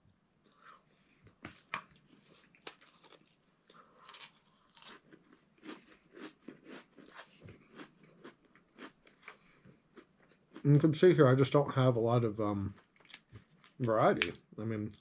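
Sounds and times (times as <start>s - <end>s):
person chewing a cracker: 0.4s - 10.7s, 12.7s - 15.0s.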